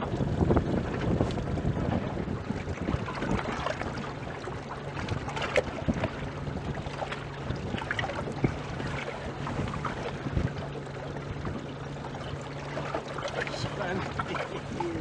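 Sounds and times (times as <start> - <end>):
boat engine hum: 0.0 - 15.0
water noise: 0.0 - 15.0
wind: 0.0 - 15.0.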